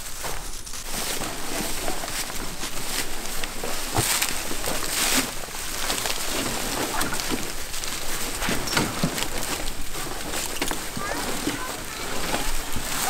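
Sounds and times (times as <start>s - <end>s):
dry corn stalks rustling: 0.0s - 13.0s.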